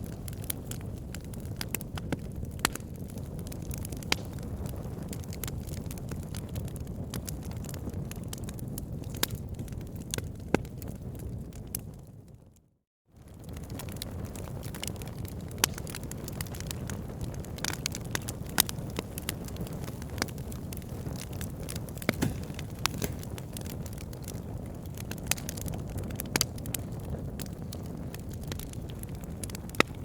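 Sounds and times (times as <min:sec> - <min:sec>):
wood fire crackling and popping: 0:00.0 - 0:12.0, 0:13.3 - 0:30.0.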